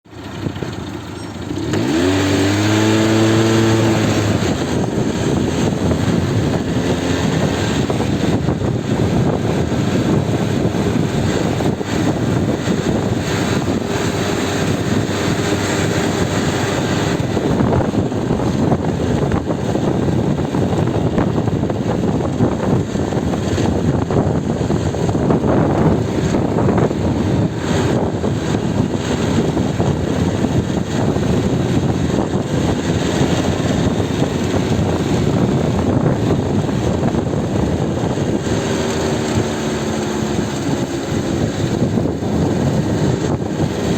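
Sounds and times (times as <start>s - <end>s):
rough surf: 0.0s - 43.9s
steady wind: 0.0s - 43.9s
vehicle engine revving: 0.1s - 43.9s.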